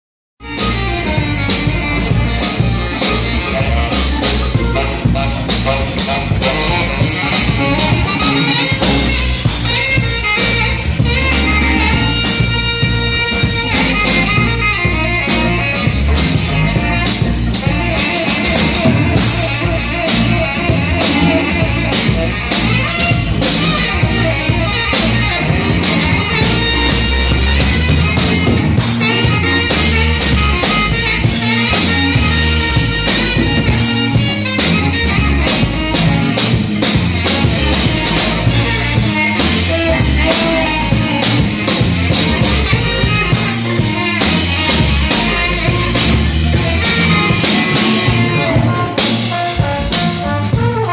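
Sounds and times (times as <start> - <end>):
drums and bass beat: 0.4 - 50.9
rock band playing: 0.4 - 50.9.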